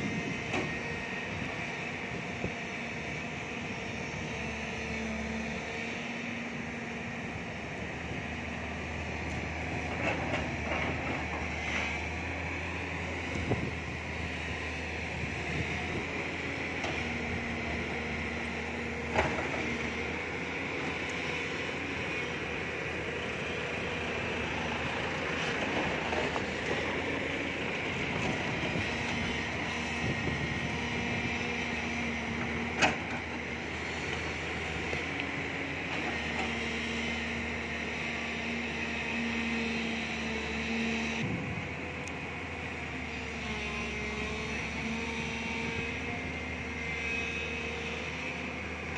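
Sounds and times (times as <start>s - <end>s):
excavator diesel engine and hydraulics: 0.0s - 48.9s.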